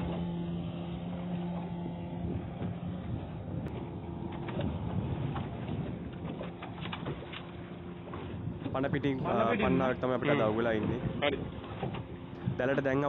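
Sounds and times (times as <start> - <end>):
boat engine humming: 0.0 - 13.0
waves: 0.0 - 13.0
wind: 0.0 - 13.0.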